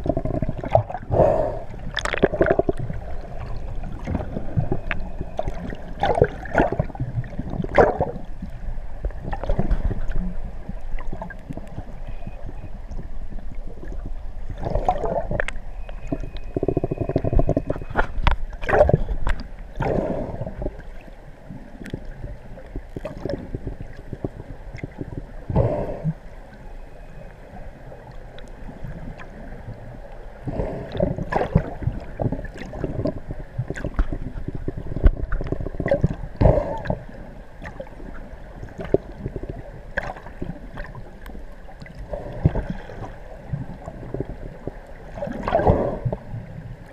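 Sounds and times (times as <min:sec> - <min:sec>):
muffled underwater rushing water: 0:00.0 - 0:46.9.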